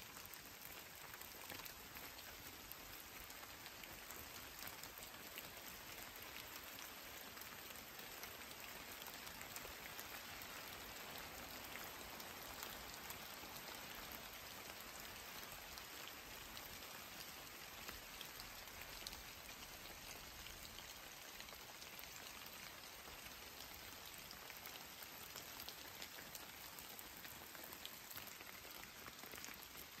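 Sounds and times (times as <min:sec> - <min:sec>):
steady rain with drop ticks: 0:00.0 - 0:30.0.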